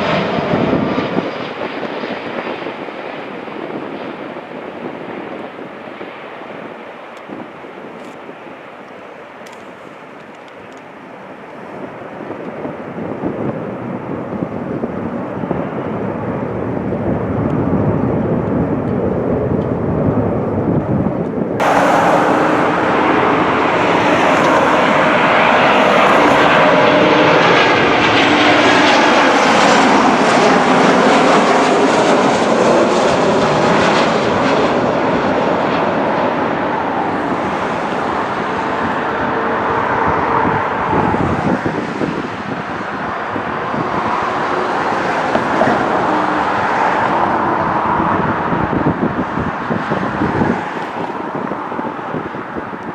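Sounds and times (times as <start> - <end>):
jet airliner flying overhead: 0.0 - 52.9.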